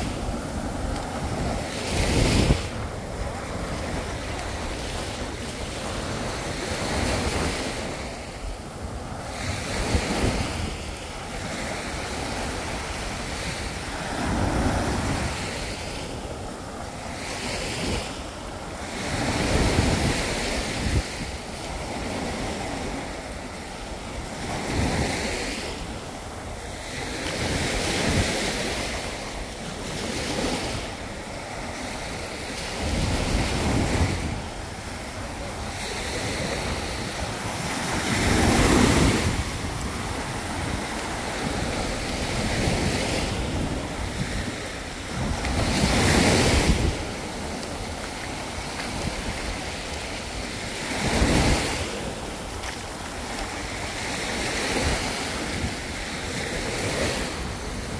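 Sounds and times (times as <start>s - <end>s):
waves washing up beach: 0.0s - 57.9s
wind buffeting microphone: 0.0s - 57.9s.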